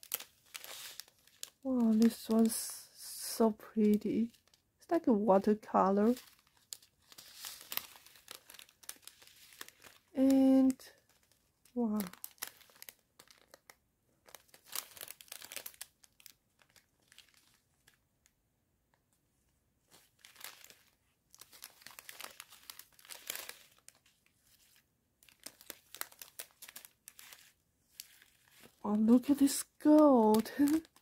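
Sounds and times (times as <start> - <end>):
plastic zip bags crinkling: 0.0 - 18.0, 19.9 - 31.0.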